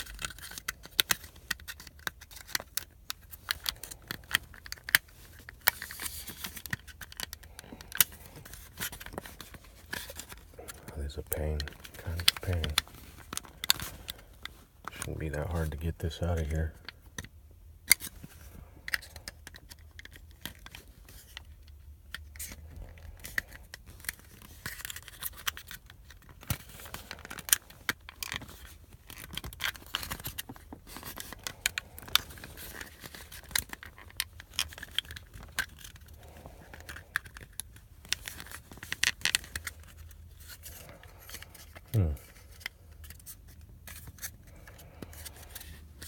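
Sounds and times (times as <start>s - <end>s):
plastic clicking and scraping: 0.0s - 46.0s.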